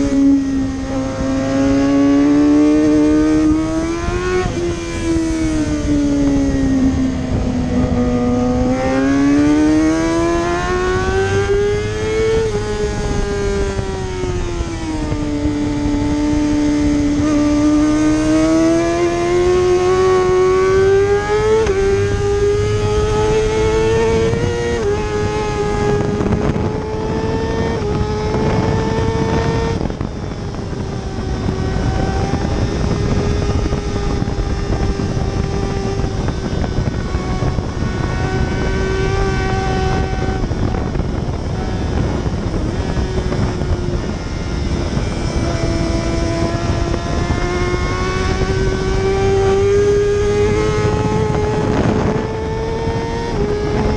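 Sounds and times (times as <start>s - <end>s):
superbike engine revving: 0.0s - 53.9s
wind and road noise: 0.0s - 53.9s.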